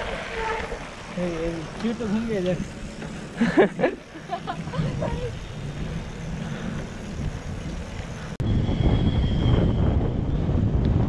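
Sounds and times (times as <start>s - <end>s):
road noise: 0.0s - 11.0s
wind rumbling on microphone: 0.0s - 11.0s.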